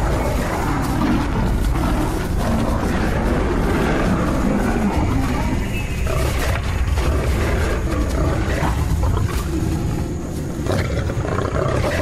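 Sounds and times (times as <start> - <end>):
lions growling and snarling: 0.0 - 12.0.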